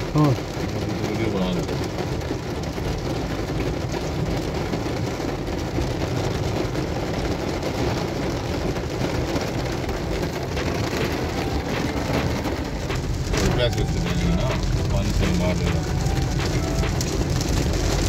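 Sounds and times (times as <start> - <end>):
heavy rain on car roof: 0.0 - 18.0
low rumble of car and traffic: 0.0 - 18.0.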